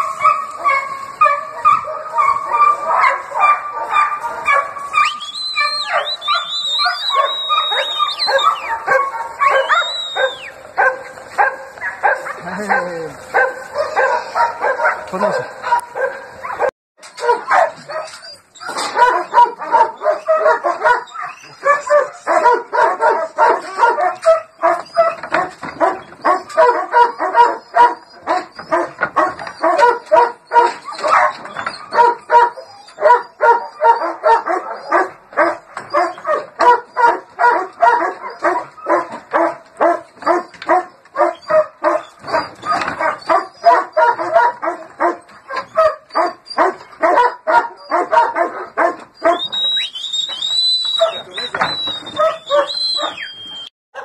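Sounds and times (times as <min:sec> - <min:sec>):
dog barking rapidly: 0:00.0 - 0:49.5, 0:51.0 - 0:53.3.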